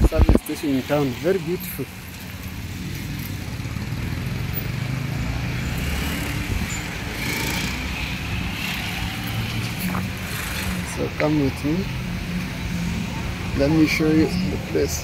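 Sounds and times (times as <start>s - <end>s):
cars passing on busy road: 0.0s - 15.0s.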